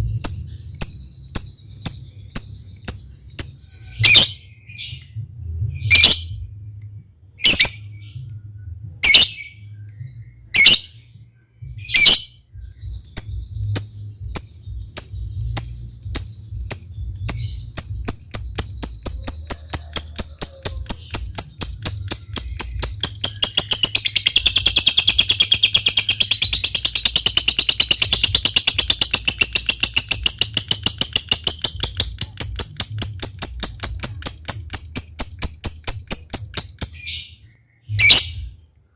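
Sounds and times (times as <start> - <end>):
lovebird chirps and trill: 0.0 - 38.7.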